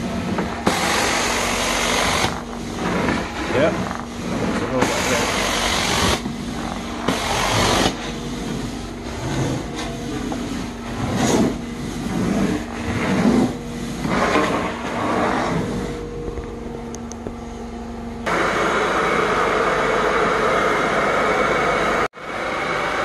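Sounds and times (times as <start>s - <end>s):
cleaner head swooshing over carpet: 0.0s - 17.6s, 18.2s - 22.0s
carpet cleaning machine humming: 0.0s - 23.0s.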